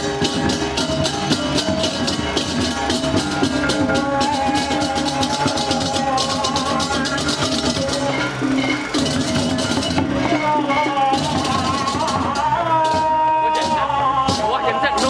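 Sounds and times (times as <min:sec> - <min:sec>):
ringing tuned gongs: 0:00.0 - 0:12.4
small cymbals clashing: 0:00.0 - 0:12.4
drums: 0:00.0 - 0:15.0.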